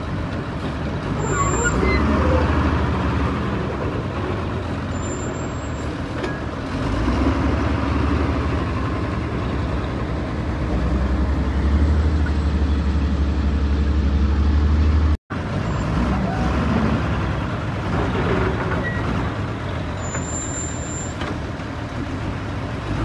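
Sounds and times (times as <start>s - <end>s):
heavy diesel engines running: 0.0s - 23.0s.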